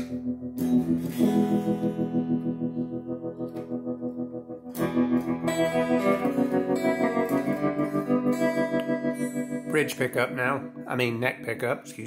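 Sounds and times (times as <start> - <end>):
electric guitar chords with tremolo: 0.0 - 12.0.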